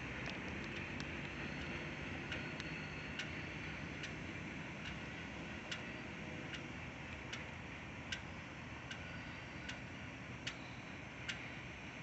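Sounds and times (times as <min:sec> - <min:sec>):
sharp regular ticking: 0:00.0 - 0:11.8
steady low rumble: 0:00.0 - 0:12.0.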